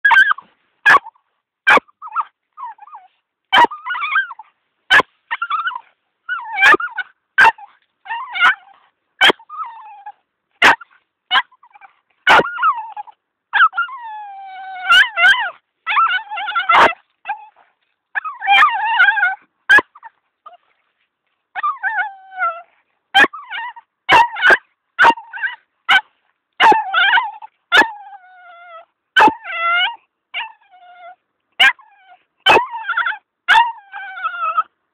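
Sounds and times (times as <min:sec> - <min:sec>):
dog whining and yipping: 0:00.0 - 0:01.1, 0:01.7 - 0:20.7, 0:21.5 - 0:34.7.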